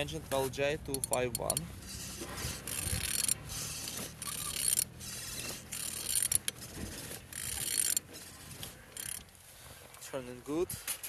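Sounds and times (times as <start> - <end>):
ratchet wrench clicking: 0.0 - 9.2.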